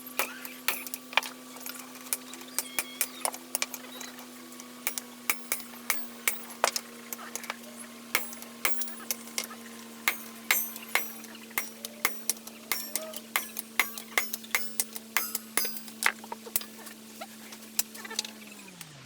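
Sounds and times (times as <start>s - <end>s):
power tool motor humming: 0.0s - 19.0s
sharp metallic clinks: 0.1s - 17.1s.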